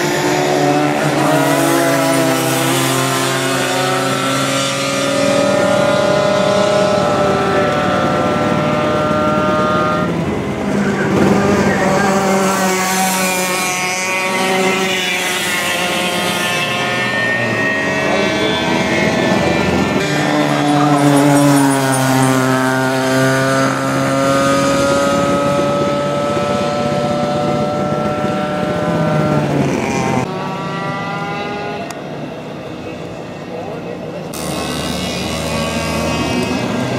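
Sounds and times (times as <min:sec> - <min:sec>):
kart passing by: 0:00.0 - 0:36.9
racing kart engines: 0:00.0 - 0:36.9.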